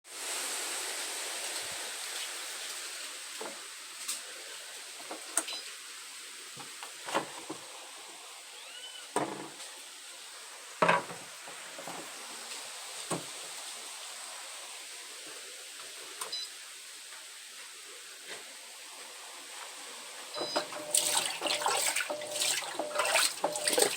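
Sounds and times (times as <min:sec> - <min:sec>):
washing machine watery hiss: 0:00.1 - 0:23.9.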